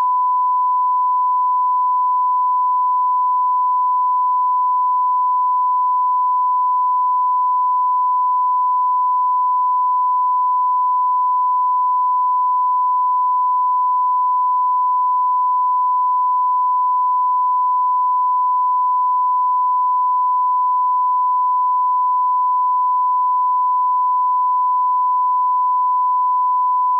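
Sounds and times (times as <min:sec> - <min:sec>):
continuous test tone beep: 0:00.0 - 0:26.9.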